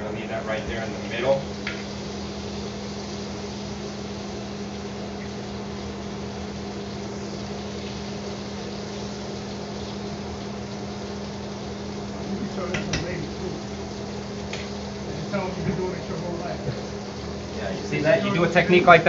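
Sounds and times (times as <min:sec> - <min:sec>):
chicken sizzling in skillet: 0:00.0 - 0:19.0.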